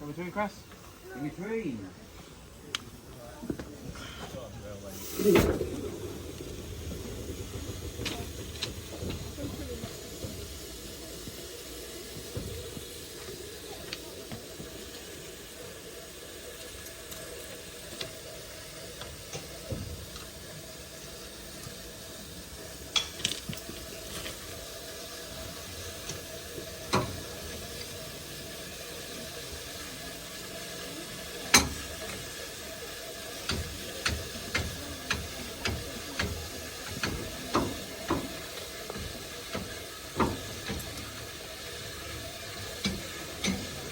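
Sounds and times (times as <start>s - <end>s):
steam locomotive hissing: 0.0s - 43.9s.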